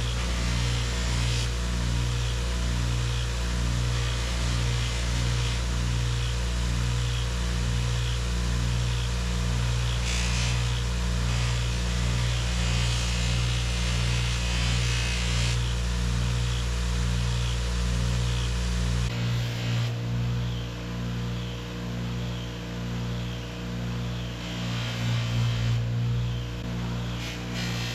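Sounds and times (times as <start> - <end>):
electric power tool humming: 0.0 - 20.6, 24.0 - 27.9.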